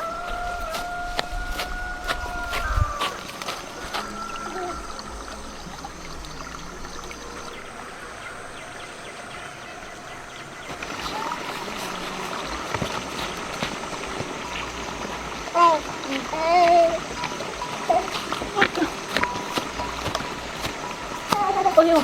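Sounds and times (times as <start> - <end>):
river water running: 0.0 - 22.0.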